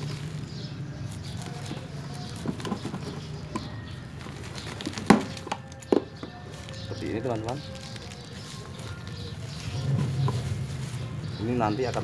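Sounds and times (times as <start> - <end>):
roots crackling and snapping: 0.0 - 3.0, 4.0 - 12.0.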